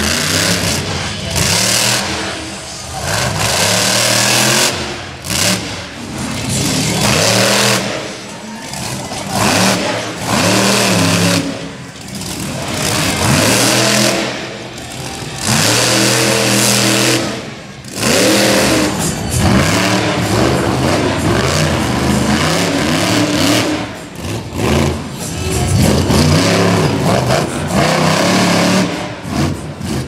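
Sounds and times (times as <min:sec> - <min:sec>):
monster truck engines revving: 0:00.0 - 0:30.0.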